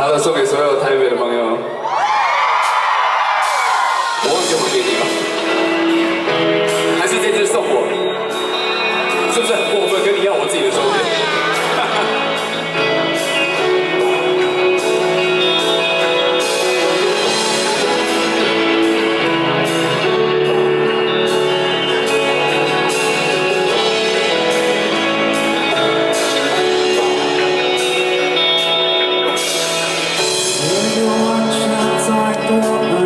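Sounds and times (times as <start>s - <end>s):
live band playing guitar and drums: 2.3s - 33.0s.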